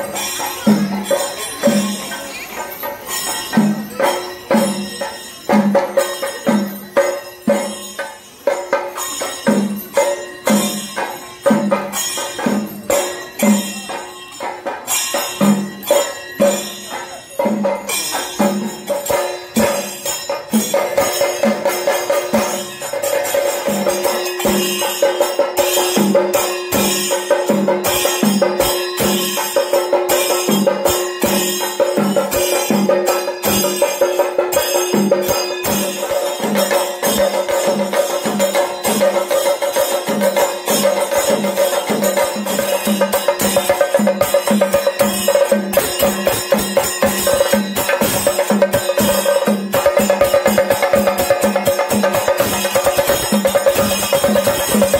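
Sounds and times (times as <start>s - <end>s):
drums beating: 0.0s - 54.9s
hand cymbals: 0.0s - 54.9s.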